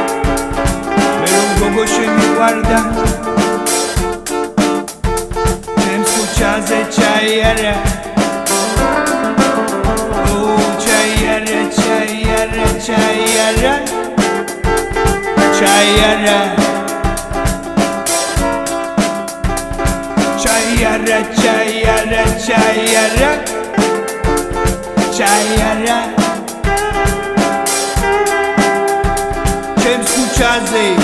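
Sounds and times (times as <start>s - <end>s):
brass playing: 0.0s - 31.0s
drum kit beat: 0.0s - 31.0s
electric guitar: 0.0s - 31.0s.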